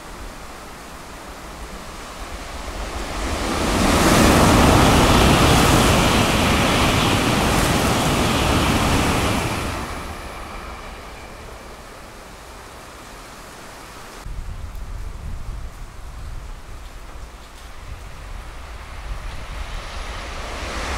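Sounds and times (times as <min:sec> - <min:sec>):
high-speed train rushing past: 0:00.0 - 0:14.3, 0:17.7 - 0:20.9
heavy rain hiss: 0:00.0 - 0:20.9.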